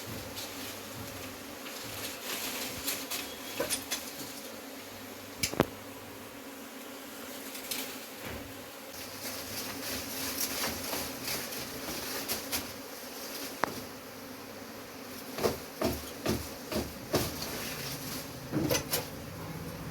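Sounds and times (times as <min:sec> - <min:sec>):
honeybees buzzing: 0:00.0 - 0:19.9.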